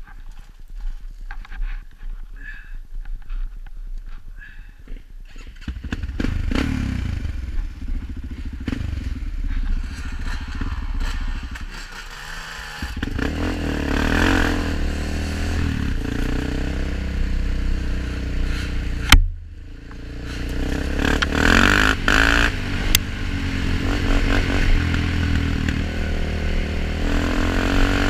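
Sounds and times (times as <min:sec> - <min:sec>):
atv engine running: 0:05.3 - 0:28.0.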